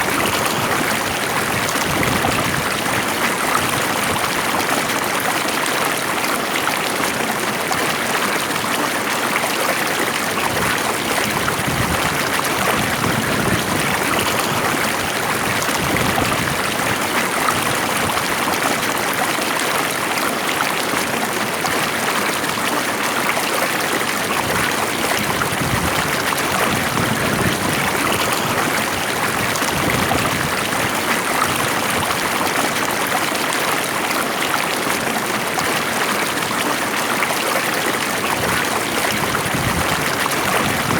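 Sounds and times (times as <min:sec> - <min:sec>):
stream of water flowing: 0:00.0 - 0:40.9.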